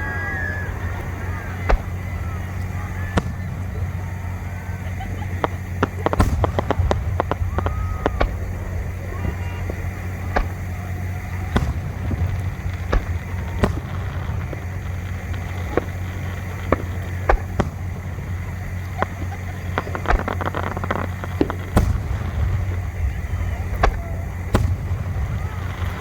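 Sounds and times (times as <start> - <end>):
fireworks cracking and banging: 0.0 - 26.0
low rumble: 0.0 - 26.0.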